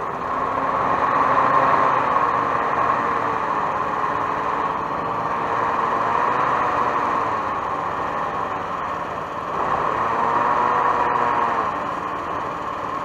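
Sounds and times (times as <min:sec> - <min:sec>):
hovercraft engine and fan: 0:00.0 - 0:13.0.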